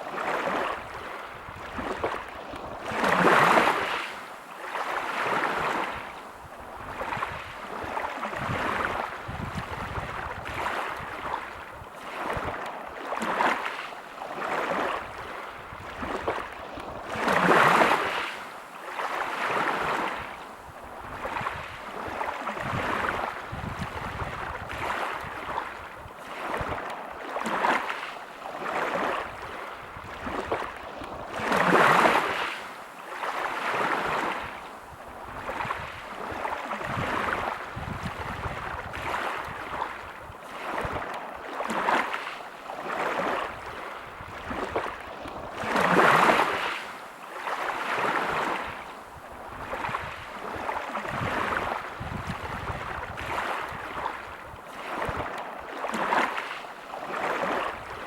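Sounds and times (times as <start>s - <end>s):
waves breaking on pebble beach: 0.0s - 20.3s, 21.1s - 58.0s.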